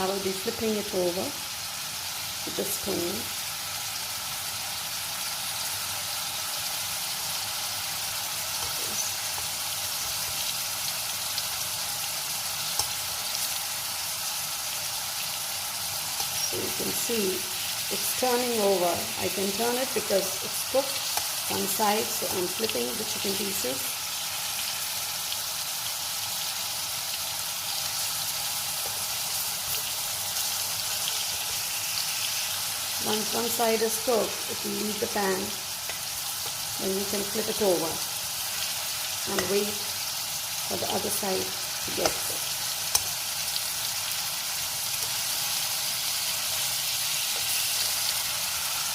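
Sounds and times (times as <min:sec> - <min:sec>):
chicken sizzling in hot oil: 0:00.0 - 0:48.9.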